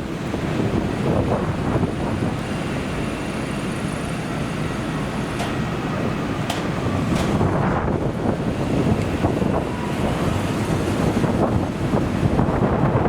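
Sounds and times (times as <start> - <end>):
jet engines whining: 0.0 - 13.0
wind buffeting microphone: 0.0 - 13.0.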